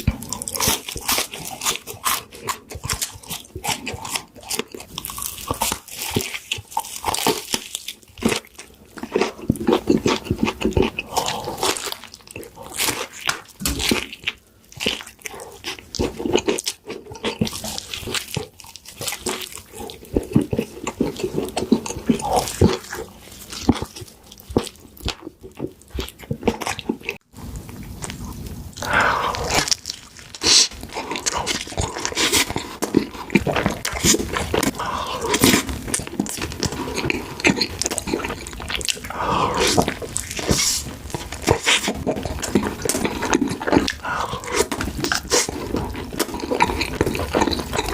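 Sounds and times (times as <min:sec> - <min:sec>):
crunching and wet chewing: 0:00.0 - 0:47.9.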